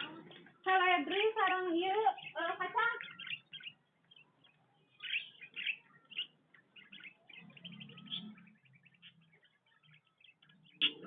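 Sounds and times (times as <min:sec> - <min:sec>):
canary chirping and singing: 0:00.0 - 0:11.0.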